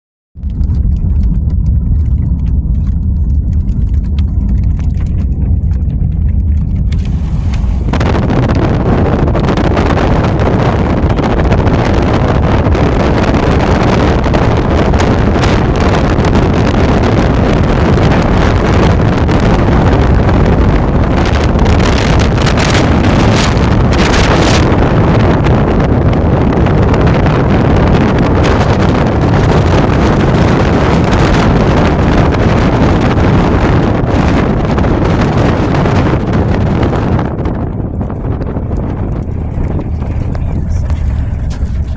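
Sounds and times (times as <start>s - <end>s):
wind buffeting microphone: 0.4s - 41.9s.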